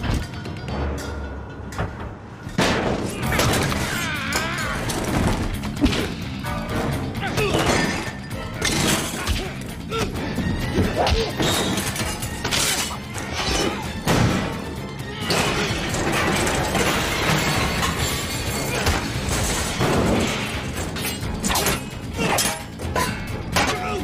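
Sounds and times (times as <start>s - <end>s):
dramatic film score: 0.0s - 24.0s.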